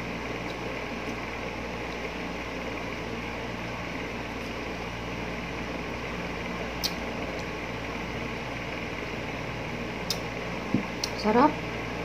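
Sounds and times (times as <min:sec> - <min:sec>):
room noise hum: 0:00.0 - 0:12.0.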